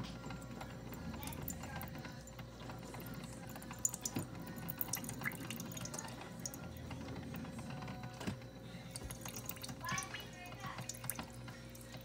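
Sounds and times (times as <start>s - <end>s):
coffee machine hum: 0.0s - 12.0s
coffee dripping into a cup: 0.2s - 7.6s, 8.9s - 12.0s.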